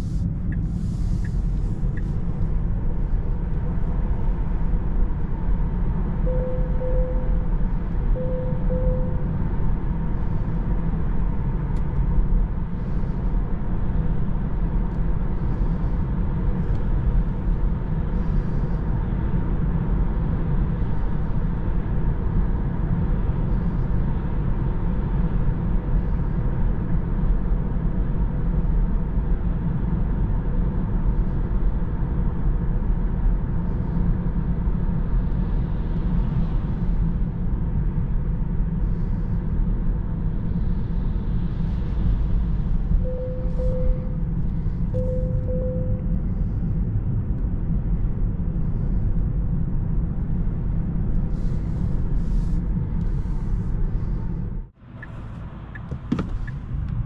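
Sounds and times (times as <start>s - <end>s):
faint steady whine: 0.0s - 26.7s, 33.2s - 56.6s
road and tyre noise in car: 0.0s - 57.0s.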